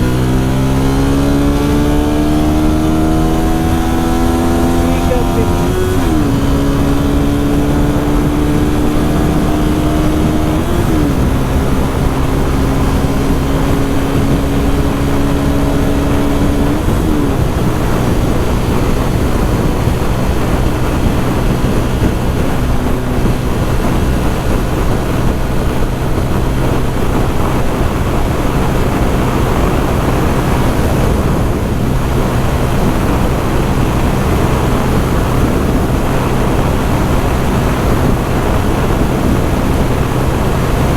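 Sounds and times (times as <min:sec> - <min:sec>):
motorcycle engine pulling hard: 0:00.0 - 0:40.9
wind rush: 0:00.0 - 0:40.9.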